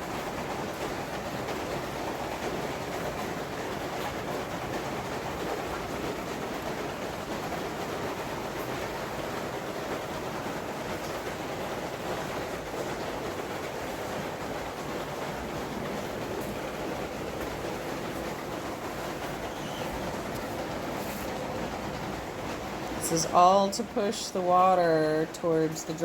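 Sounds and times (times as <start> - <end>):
heavy rain rushing: 0.0 - 26.0.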